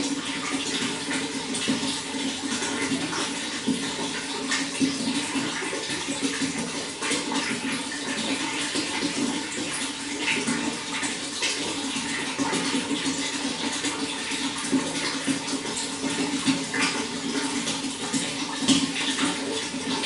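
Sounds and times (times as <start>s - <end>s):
running water splashing: 0.0s - 20.0s.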